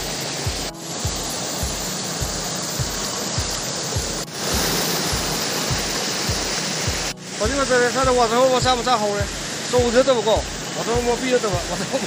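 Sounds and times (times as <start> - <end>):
low regular pulse: 0.0 - 11.8
mountain stream over boulders: 0.0 - 12.0.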